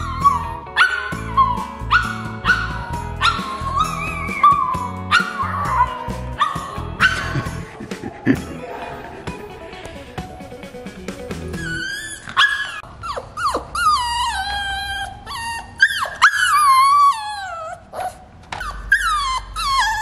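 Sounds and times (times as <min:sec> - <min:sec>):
puppy yelping: 0:00.0 - 0:07.6, 0:11.6 - 0:20.0
puppy whining: 0:00.0 - 0:08.4, 0:11.5 - 0:20.0.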